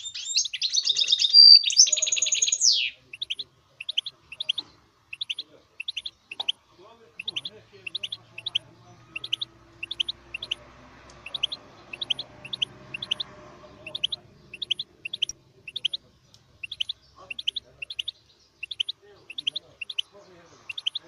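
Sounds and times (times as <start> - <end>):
bird chirping high and sharp: 0.0 - 21.0.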